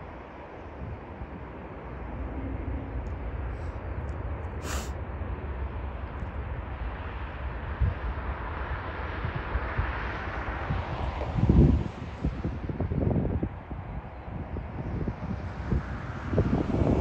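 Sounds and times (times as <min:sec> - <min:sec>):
distant jet airliner running: 0:00.0 - 0:17.0
wind buffeting microphone: 0:00.0 - 0:17.0.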